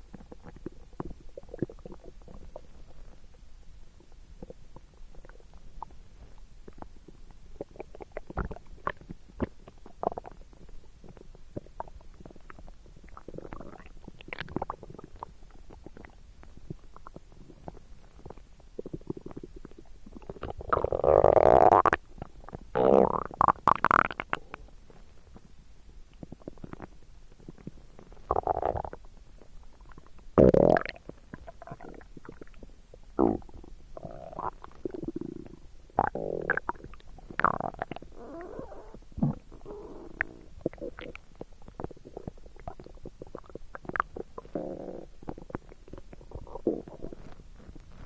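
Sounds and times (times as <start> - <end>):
stomach gurgling: 0.0 - 48.0.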